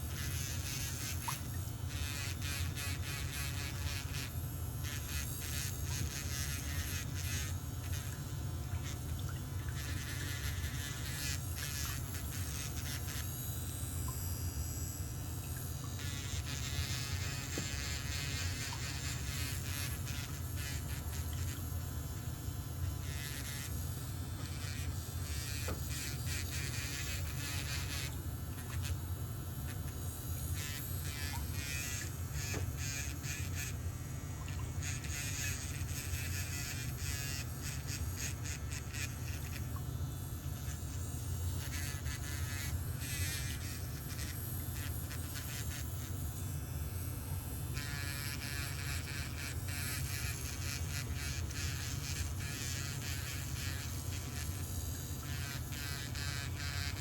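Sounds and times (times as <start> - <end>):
electric nail drill buzzing: 0.0 - 57.0.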